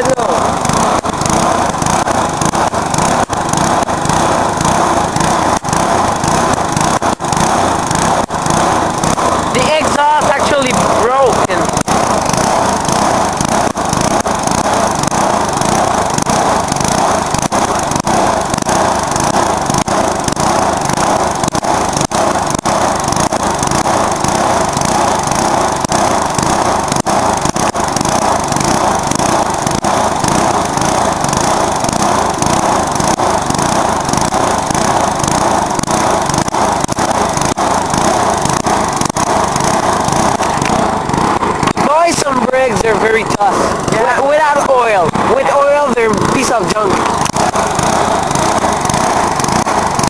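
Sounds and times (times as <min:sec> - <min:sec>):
lawnmower engine running: 0:00.0 - 0:50.0.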